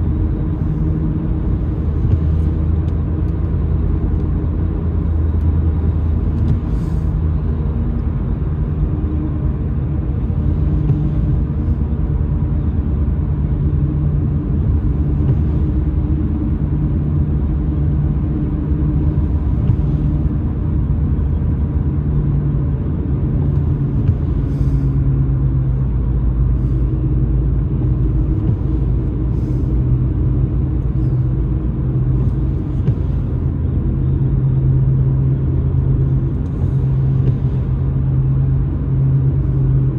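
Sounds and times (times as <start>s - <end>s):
car engine and tyres rumbling: 0.0s - 39.9s
windscreen wipers swishing: 0.0s - 39.9s.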